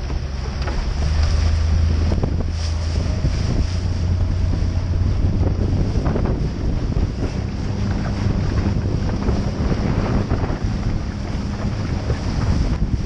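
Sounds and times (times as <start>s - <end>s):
boat engine running: 0.0s - 13.0s
water rushing past hull: 0.0s - 13.0s
wind buffeting microphone: 0.0s - 13.0s.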